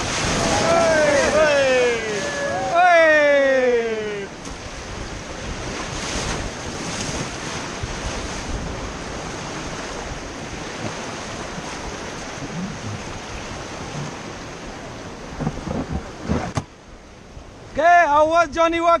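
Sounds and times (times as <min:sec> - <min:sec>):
wind noise on microphone: 0:00.0 - 0:02.7, 0:04.6 - 0:17.8
river rapids rushing: 0:00.0 - 0:15.4.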